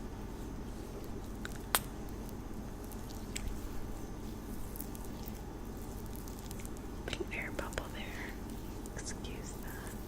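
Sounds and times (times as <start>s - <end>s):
hands rubbing in cream: 0.2s - 10.0s.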